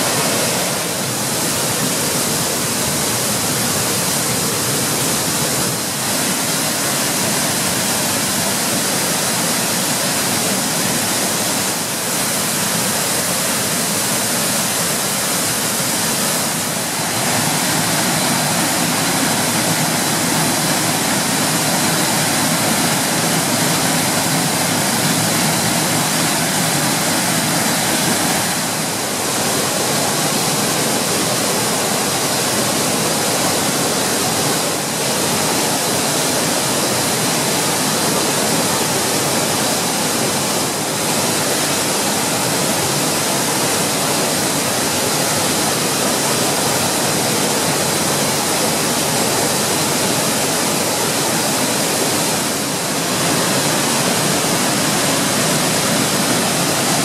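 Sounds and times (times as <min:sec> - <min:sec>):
waterfall rushing over rock: 0:00.0 - 0:57.0.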